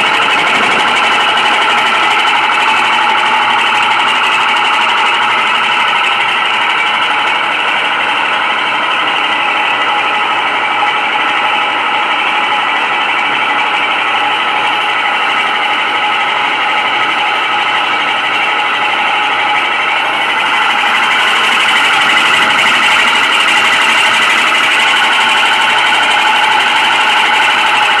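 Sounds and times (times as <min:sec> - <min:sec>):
water-jet pump rattling: 0:00.0 - 0:28.0.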